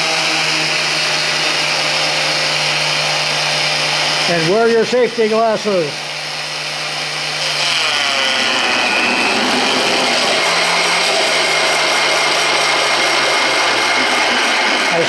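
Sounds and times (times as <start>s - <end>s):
drill press cutting steel: 0.0s - 15.0s.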